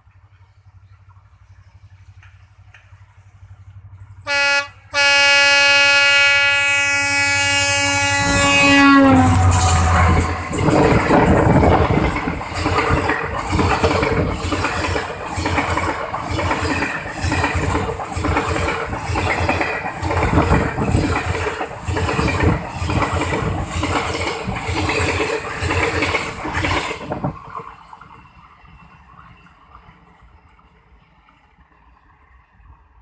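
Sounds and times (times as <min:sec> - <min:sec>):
train rumbling and clattering: 0:00.0 - 0:33.0.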